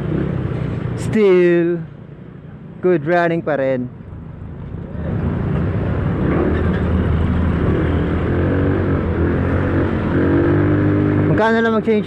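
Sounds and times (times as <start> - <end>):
road and wind rush: 0.0 - 12.0.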